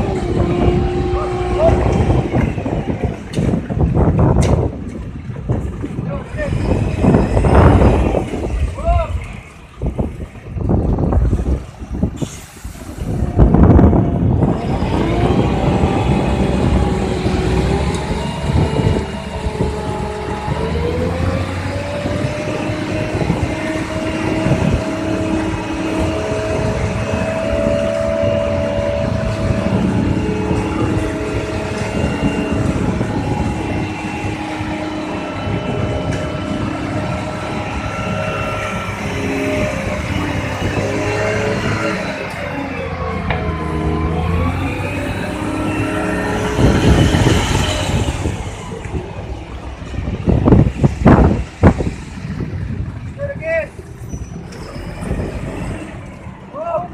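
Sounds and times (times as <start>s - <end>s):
truck diesel engine running: 0.0s - 56.9s.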